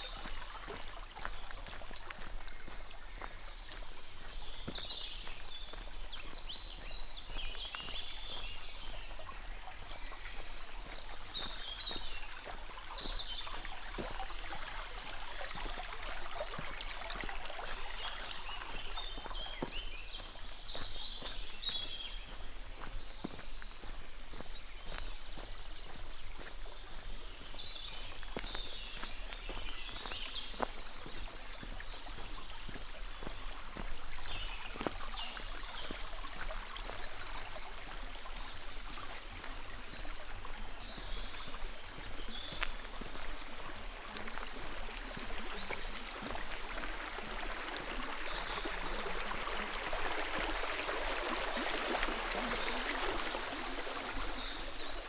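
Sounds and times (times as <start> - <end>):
birds chirping: 0.0 - 50.5
brook running water: 0.0 - 55.0.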